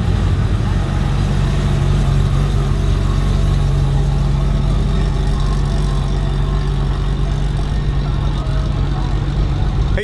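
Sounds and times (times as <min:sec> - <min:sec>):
truck engine driving slowly by: 0:00.0 - 0:10.0.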